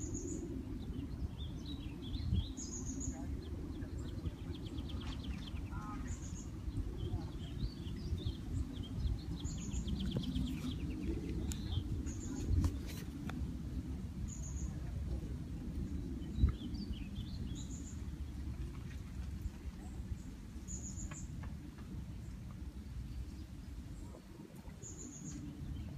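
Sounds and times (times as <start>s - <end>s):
birds chirping trills: 0.0s - 15.0s, 15.7s - 25.9s
steady low rumble: 0.0s - 25.9s.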